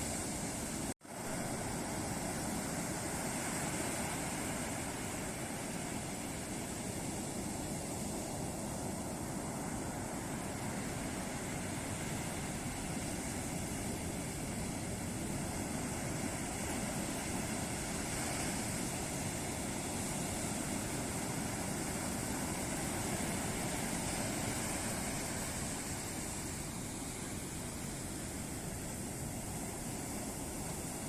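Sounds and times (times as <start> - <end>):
waves breaking on a beach: 0.0 - 31.0.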